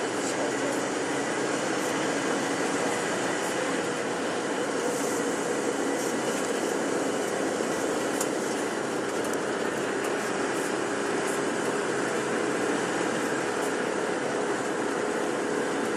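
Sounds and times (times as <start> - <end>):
bus engine and road noise: 0.0 - 15.9.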